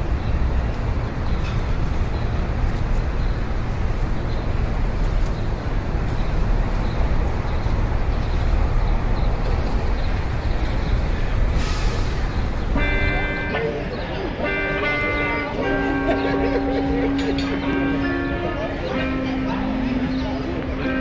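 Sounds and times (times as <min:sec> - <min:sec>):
low rumbling vehicle noise: 0:00.0 - 0:21.0.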